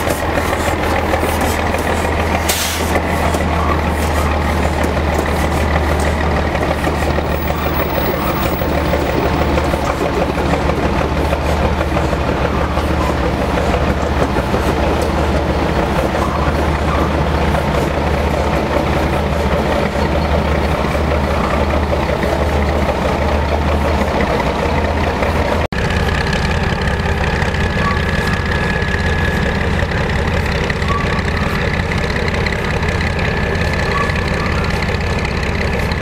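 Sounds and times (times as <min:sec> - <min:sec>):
diesel locomotive engine droning: 0:00.0 - 0:36.0.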